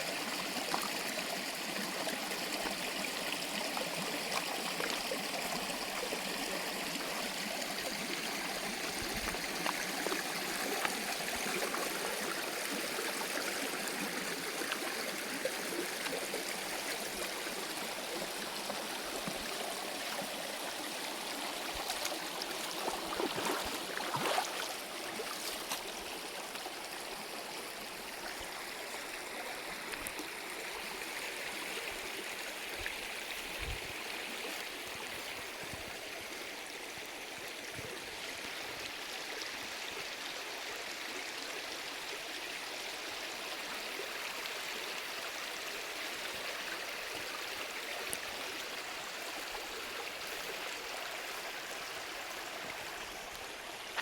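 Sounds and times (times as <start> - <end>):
stream water over rocks: 0.0 - 54.0.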